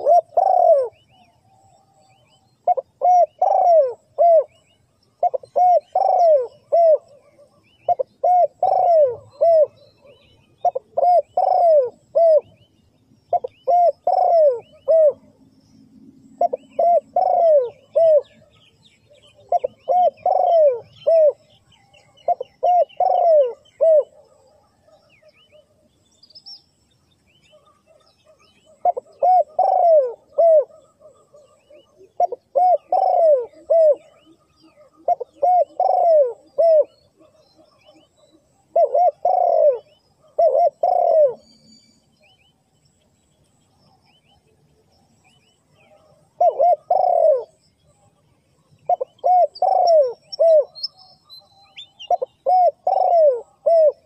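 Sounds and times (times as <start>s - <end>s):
dove cooing: 0.0s - 12.6s, 13.3s - 15.4s, 16.0s - 25.9s, 27.5s - 42.4s, 45.7s - 48.0s, 48.6s - 54.0s
faint high chirps: 0.0s - 54.0s.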